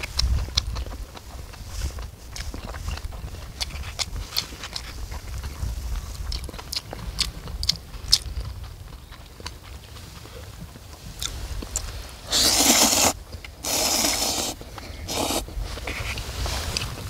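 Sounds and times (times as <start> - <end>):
chewing crunches: 0.0 - 17.0.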